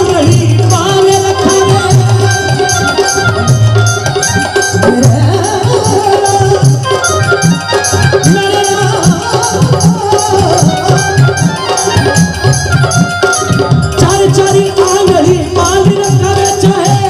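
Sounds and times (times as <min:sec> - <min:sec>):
drums keeping a steady beat: 0:00.0 - 0:17.0
high percussion: 0:00.0 - 0:17.0.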